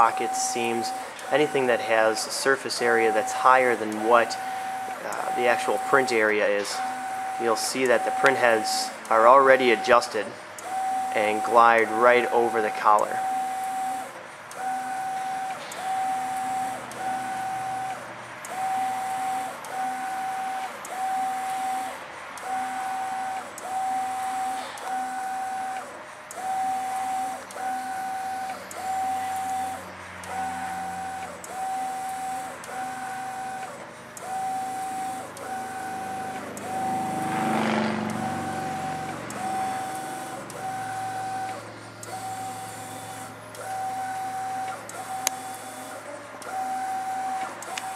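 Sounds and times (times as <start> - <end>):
printer carriage motor whine: 0.0 - 47.9.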